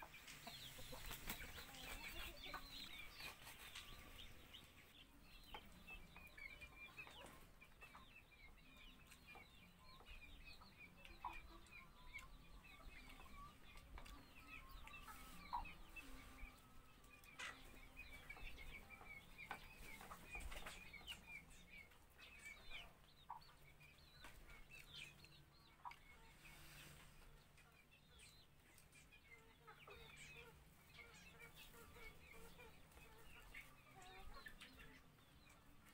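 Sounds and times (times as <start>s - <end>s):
chickens clucking and chirping: 0.0s - 35.9s.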